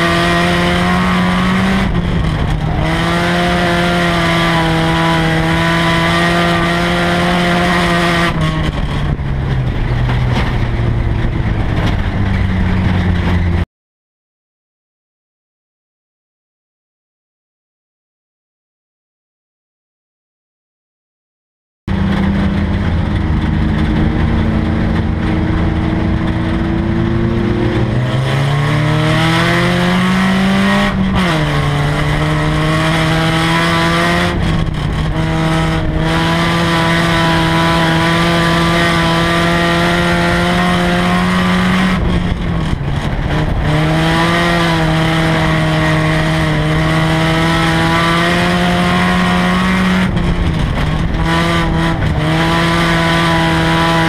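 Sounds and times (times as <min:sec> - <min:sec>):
race car engine revving: 0:00.0 - 0:13.6, 0:21.9 - 0:54.0.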